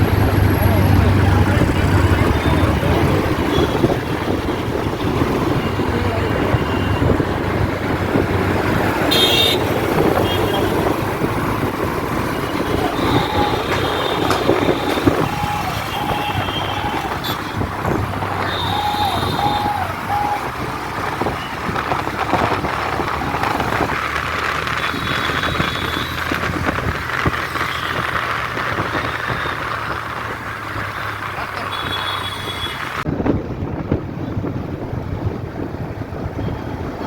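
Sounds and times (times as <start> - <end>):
street traffic engine hum: 0.0 - 37.0.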